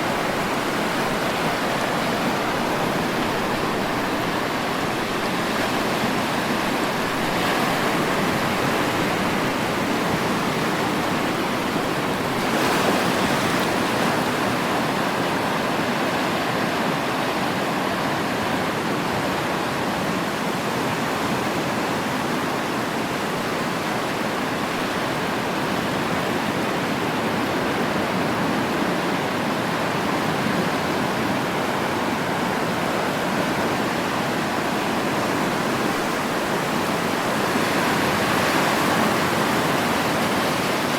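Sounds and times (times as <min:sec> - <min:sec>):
waves washing on shore: 0:00.0 - 0:40.9.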